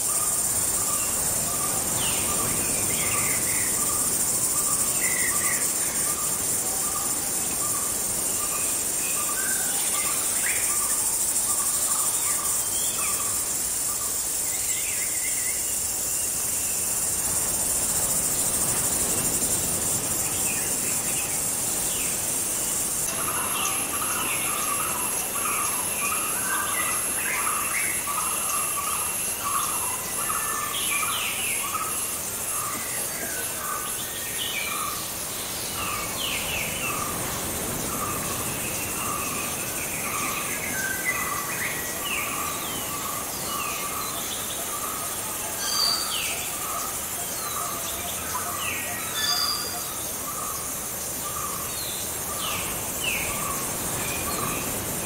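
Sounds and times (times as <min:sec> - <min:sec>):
high insect trill: 0:00.0 - 0:55.0.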